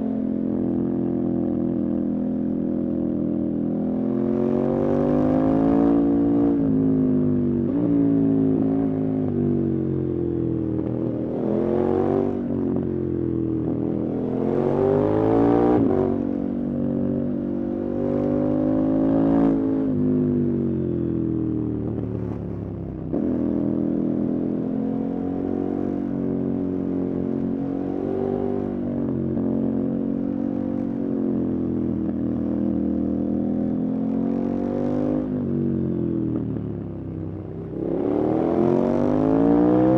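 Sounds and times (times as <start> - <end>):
motorcycle engine accelerating: 3.6 - 39.9.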